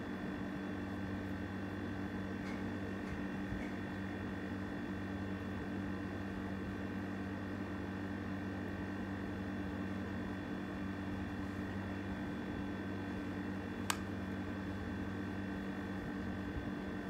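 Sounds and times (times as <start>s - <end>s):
electrical hum with buzz: 0.0s - 17.0s.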